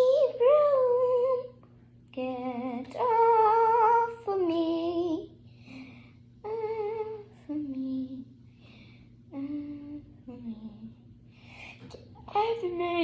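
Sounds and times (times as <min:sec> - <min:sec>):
girl singing wordless tune: 0:00.0 - 0:13.0.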